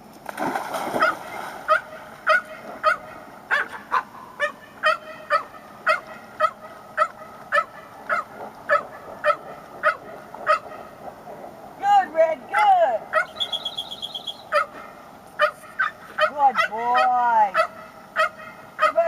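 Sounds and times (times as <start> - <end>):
puppy yapping: 1.0 - 10.8, 13.1 - 19.0.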